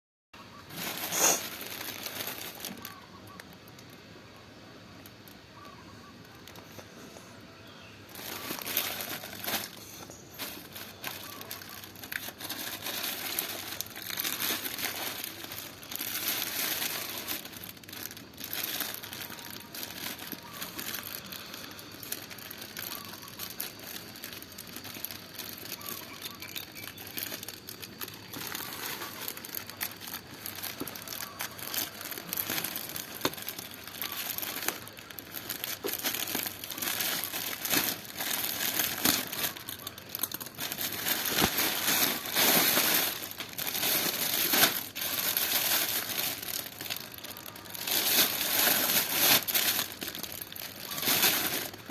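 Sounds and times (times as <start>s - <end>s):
packaging crinkling and rustling: 0.5s - 4.0s, 8.1s - 51.9s.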